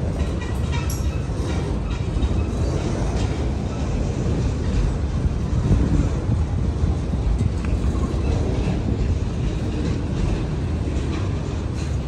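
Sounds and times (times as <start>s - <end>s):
steel wheels rumbling on rails: 0.0s - 12.0s.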